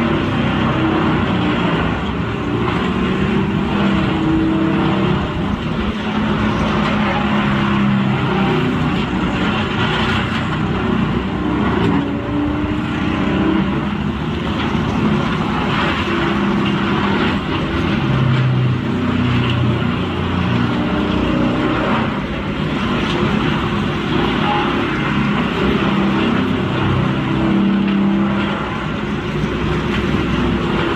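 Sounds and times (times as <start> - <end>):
diesel engine labouring: 0.0 - 30.9
wood grinding and crackling: 0.0 - 30.9.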